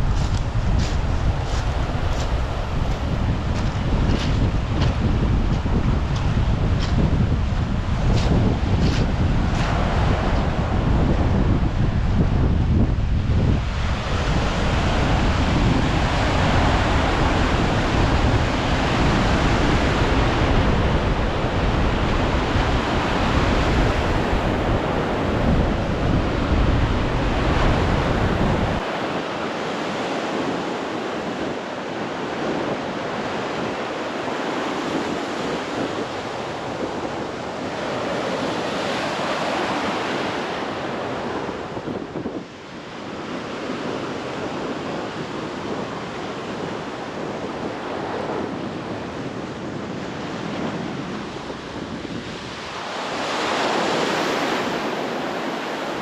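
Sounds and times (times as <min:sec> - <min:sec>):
sea waves washing on shore: 0:00.0 - 0:56.0
wind buffeting microphone: 0:00.0 - 0:56.0.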